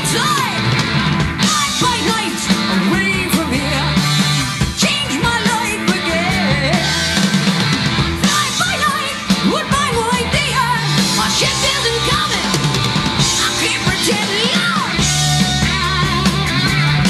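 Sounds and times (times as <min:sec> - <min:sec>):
bass guitar: 0:00.0 - 0:17.0
drums: 0:00.0 - 0:17.0
electric guitar: 0:00.0 - 0:17.0.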